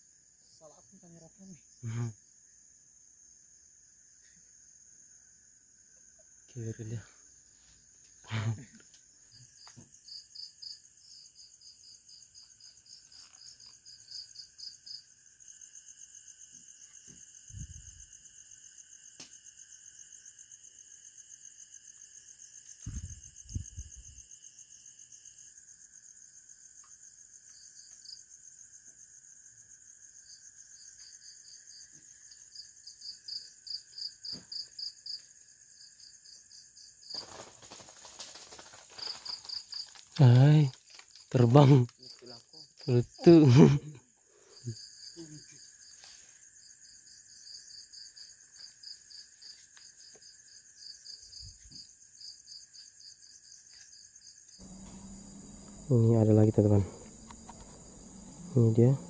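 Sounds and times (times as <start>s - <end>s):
insects trilling: 0.0s - 59.0s
rapid insect chirping: 0.0s - 59.0s.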